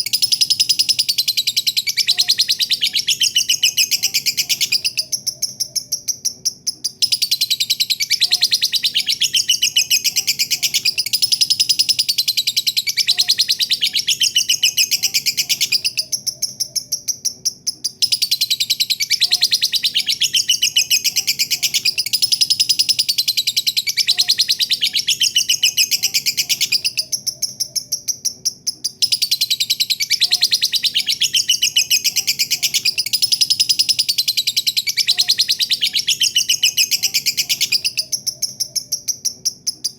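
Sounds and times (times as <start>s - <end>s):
lovebird chattering song: 0.0s - 39.9s.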